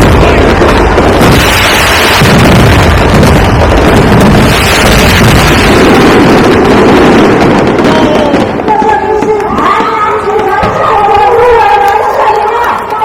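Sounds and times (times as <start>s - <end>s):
fireworks rumbling barrage: 0.0s - 13.0s.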